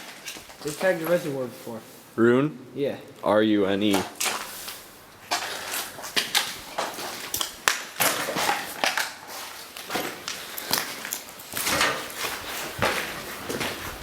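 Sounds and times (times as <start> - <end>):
footsteps crunching: 0.0 - 2.1, 3.9 - 14.0.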